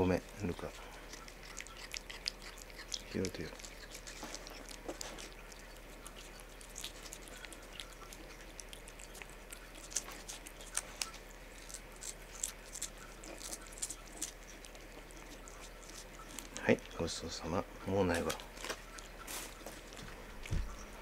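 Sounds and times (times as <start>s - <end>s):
cat licking and chewing: 0.0s - 21.0s.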